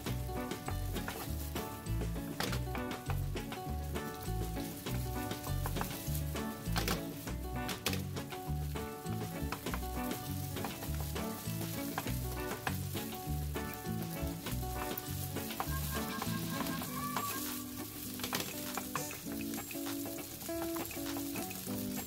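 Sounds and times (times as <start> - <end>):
background music with bass: 0.0 - 22.0
rice sizzling in a frying pan: 0.0 - 22.0
wooden paddle clicking on pan: 2.3 - 8.4, 9.1 - 22.0.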